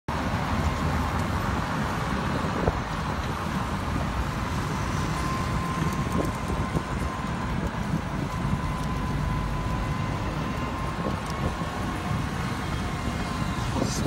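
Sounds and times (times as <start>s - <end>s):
road traffic noise: 0.1s - 14.0s.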